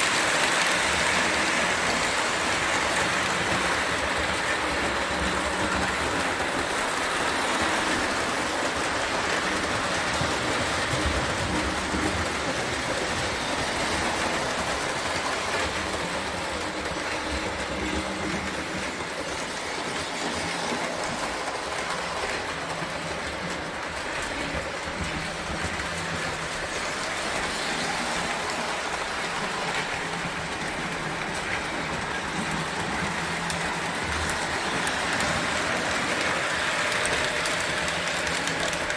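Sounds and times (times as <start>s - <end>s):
toy trains rumbling on metal track: 0.0s - 38.9s.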